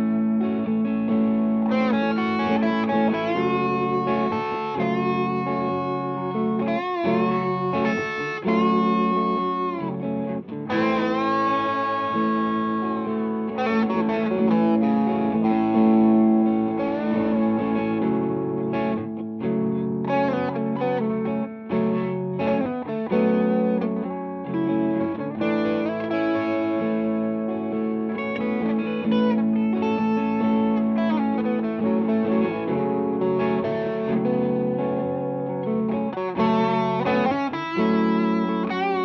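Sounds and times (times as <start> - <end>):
looped backing part: 0.0 - 39.0
overdriven electric guitar lead: 0.0 - 39.0.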